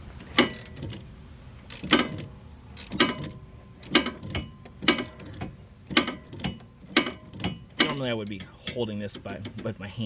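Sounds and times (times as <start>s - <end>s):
hand ratchet clicking: 0.3s - 1.0s, 1.7s - 9.6s.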